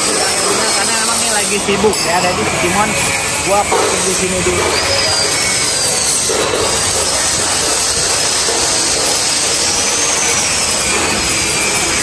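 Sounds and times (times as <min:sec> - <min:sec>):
factory machinery hiss and rumble: 0:00.0 - 0:12.0.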